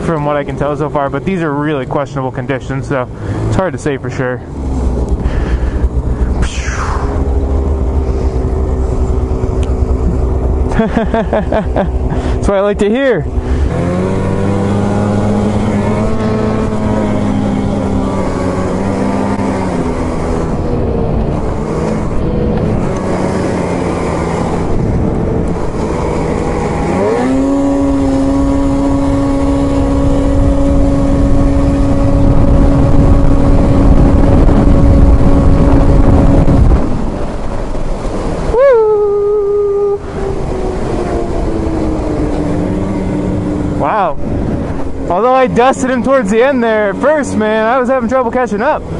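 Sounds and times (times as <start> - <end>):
heavy wind rush: 0.0 - 48.9
snowmobile engines running: 0.0 - 48.9.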